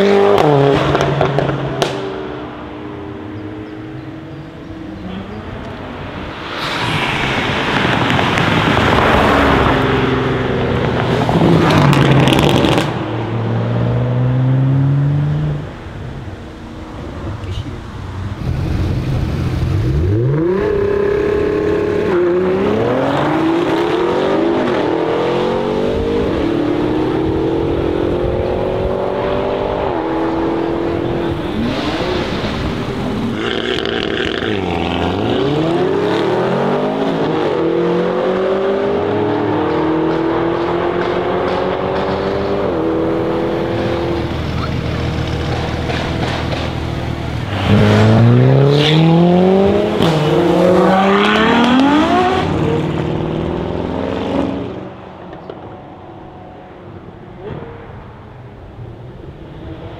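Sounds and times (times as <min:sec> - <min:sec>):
car engines accelerating hard: 0:00.0 - 0:59.9.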